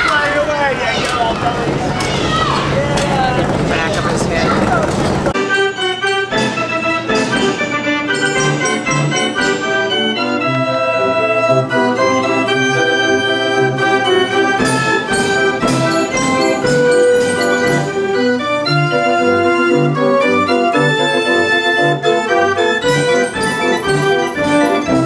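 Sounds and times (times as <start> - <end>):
band organ playing lively tune: 0.0 - 25.0.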